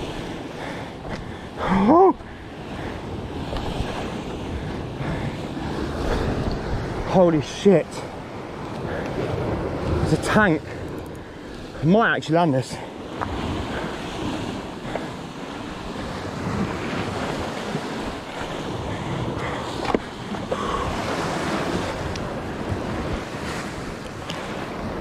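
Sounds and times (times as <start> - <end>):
wind buffeting microphone: 0.0 - 11.9, 12.6 - 25.0
sea waves washing on rocks: 0.0 - 25.0.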